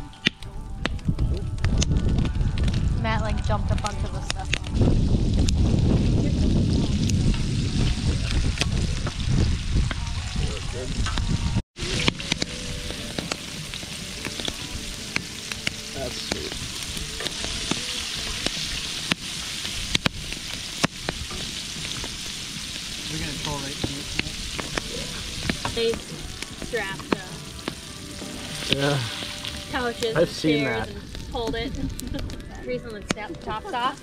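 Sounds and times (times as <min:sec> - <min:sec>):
food sizzling over campfire: 0:00.0 - 0:34.0
sharp pops of fire: 0:00.2 - 0:10.1, 0:11.9 - 0:33.3.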